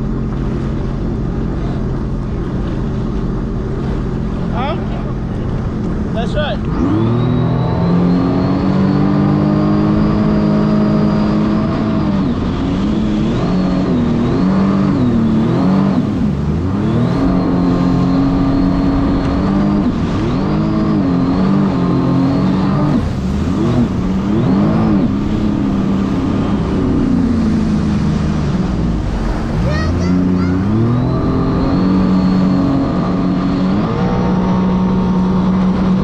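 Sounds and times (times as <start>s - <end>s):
watercraft engine revving: 0.0s - 36.0s.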